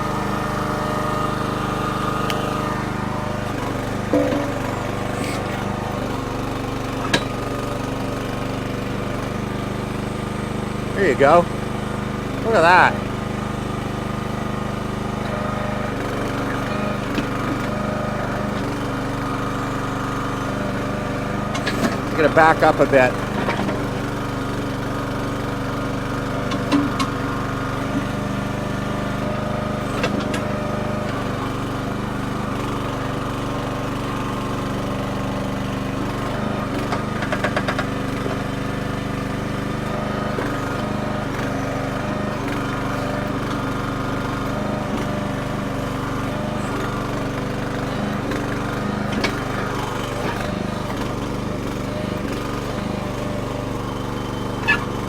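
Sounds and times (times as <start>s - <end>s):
hydraulics working: 0.0s - 55.0s
small gas engine running: 0.0s - 55.0s.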